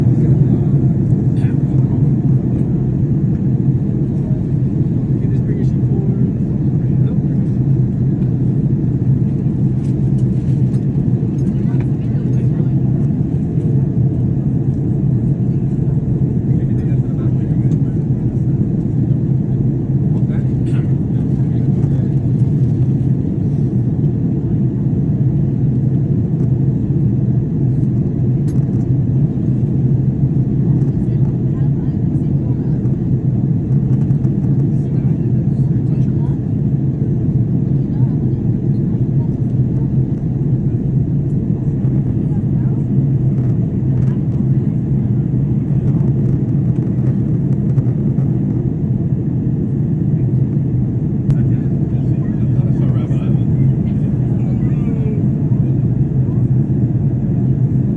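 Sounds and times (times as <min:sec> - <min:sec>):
aircraft engine drone in cabin: 0:00.0 - 0:57.9.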